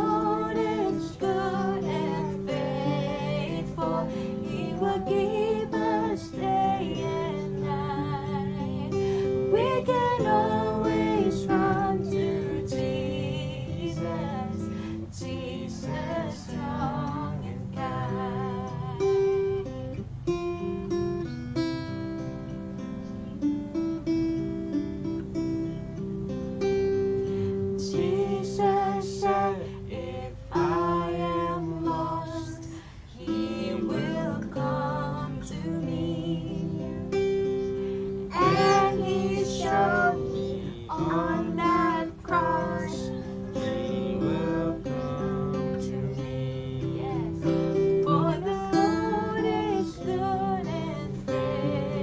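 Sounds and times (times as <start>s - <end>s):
woman singing: 0.0s - 19.6s, 27.5s - 52.0s
strummed acoustic guitar: 0.0s - 52.0s.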